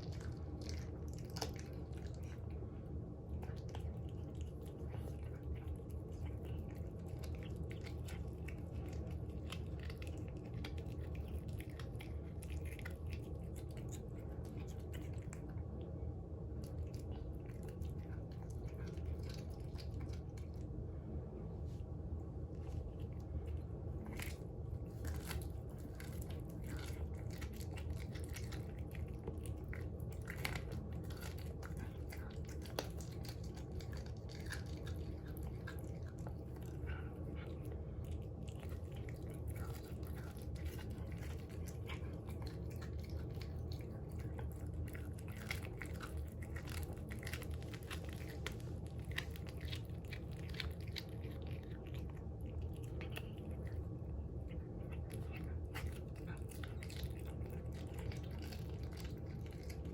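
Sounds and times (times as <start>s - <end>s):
cat chewing and crunching: 0.0s - 59.9s.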